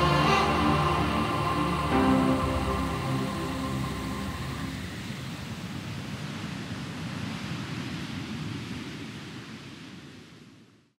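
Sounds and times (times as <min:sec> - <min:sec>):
ocean surf washing on beach: 0:00.0 - 0:10.8.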